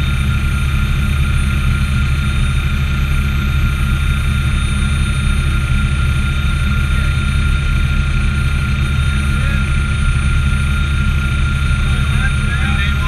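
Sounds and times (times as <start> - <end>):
helicopter low rumble: 0.0 - 13.0
turbine whine: 0.0 - 13.0.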